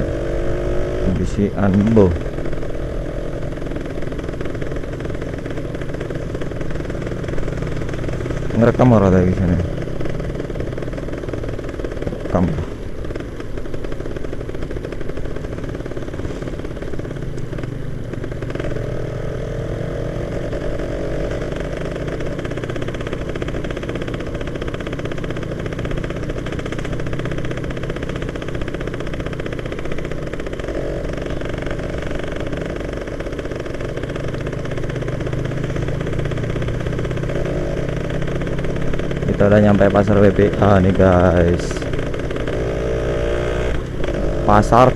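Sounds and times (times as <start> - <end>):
road and wind noise: 0.0 - 44.9
two-stroke motorcycle engine: 0.0 - 44.9.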